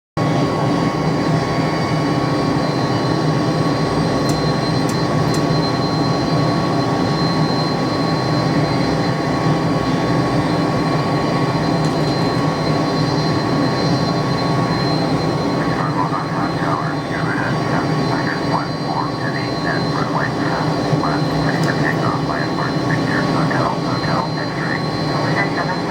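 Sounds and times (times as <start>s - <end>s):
jet engines running: 0.2s - 25.9s.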